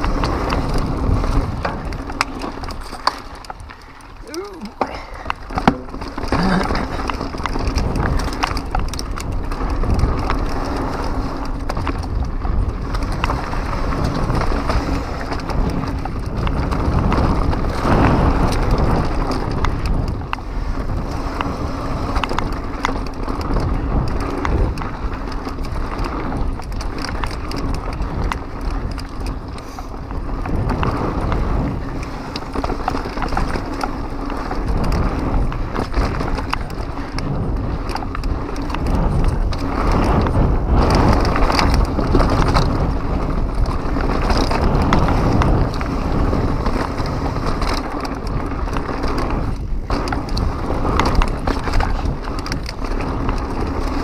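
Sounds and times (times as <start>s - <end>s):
bike clicks and rattles: 0.0s - 54.0s
mountain bike rolling on dirt: 0.0s - 54.0s.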